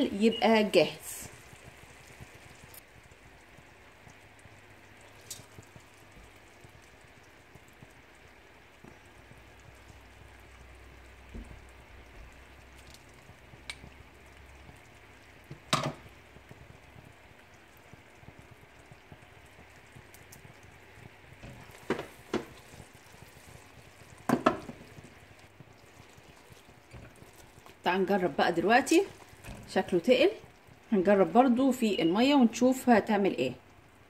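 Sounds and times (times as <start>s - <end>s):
syrup bubbling in a pot: 0.0s - 34.0s.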